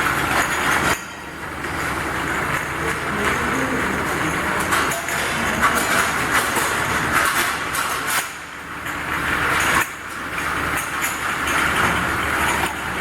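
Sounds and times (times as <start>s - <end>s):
bottle washing machine running: 0.0s - 13.0s.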